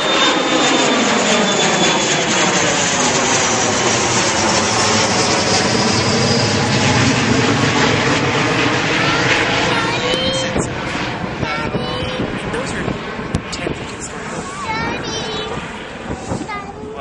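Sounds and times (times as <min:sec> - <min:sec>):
jet engines passing close: 0:00.0 - 0:17.0.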